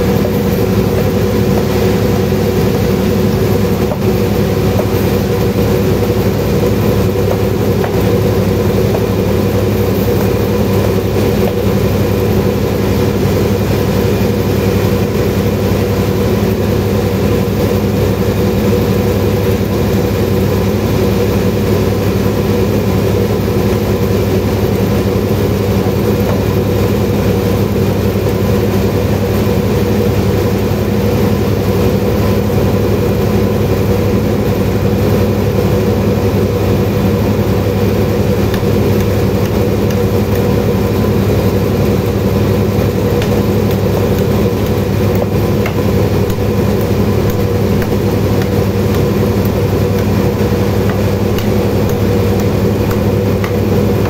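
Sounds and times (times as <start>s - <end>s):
band sawmill drone: 0.0s - 54.0s.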